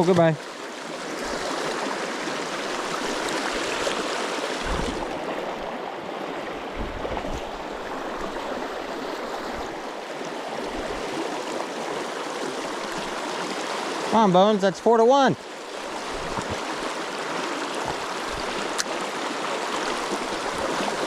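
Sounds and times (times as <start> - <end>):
river rushing over rocks: 0.0 - 14.2, 15.4 - 21.0.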